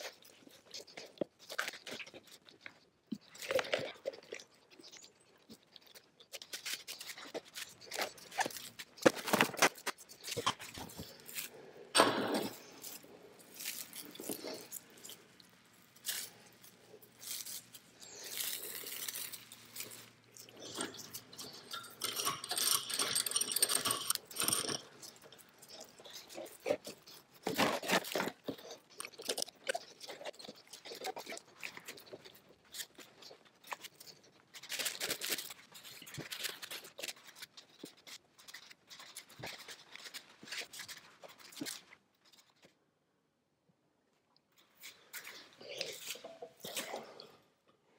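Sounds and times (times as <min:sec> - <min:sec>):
cling wrap crinkling: 0:00.0 - 0:42.7.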